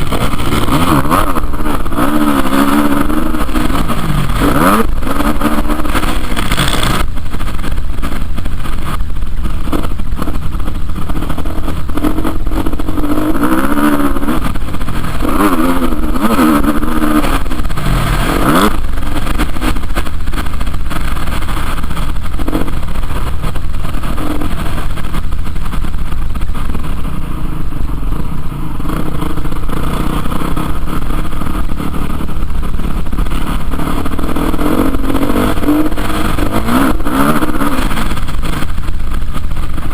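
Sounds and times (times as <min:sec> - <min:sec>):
motocross bike engine revving: 0:00.0 - 0:39.9
steady low noise: 0:00.0 - 0:39.9.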